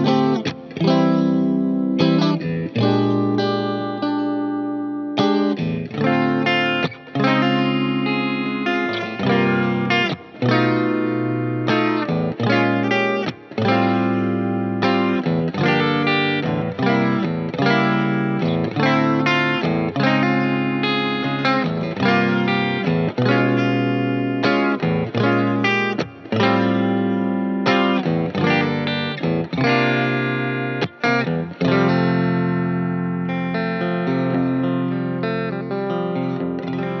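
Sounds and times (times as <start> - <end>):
distorted electric guitar chords: 0.0 - 37.0.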